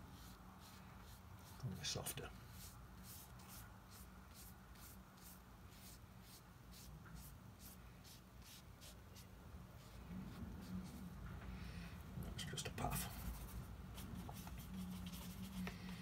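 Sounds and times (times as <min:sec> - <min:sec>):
paintbrush swishing on paper: 0:00.0 - 0:11.2, 0:13.0 - 0:16.0.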